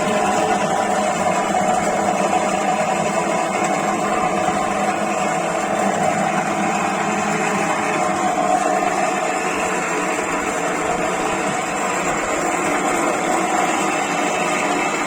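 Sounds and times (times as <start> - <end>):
mortising machine motor humming: 0.0 - 15.0.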